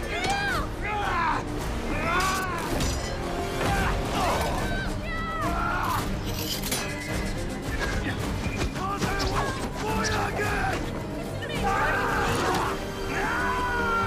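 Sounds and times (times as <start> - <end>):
people shouting: 0.0 - 2.8, 3.5 - 6.2, 7.7 - 14.0
dramatic film score: 0.0 - 14.0.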